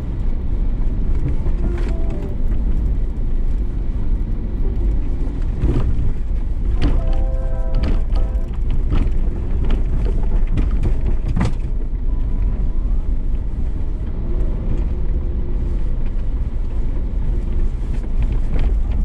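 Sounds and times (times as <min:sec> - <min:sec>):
engine and drivetrain rumble: 0:00.0 - 0:19.0.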